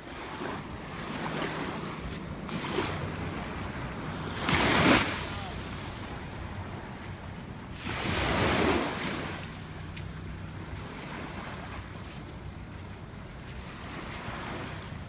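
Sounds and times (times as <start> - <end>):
small waves lapping on sand: 0.0 - 15.0.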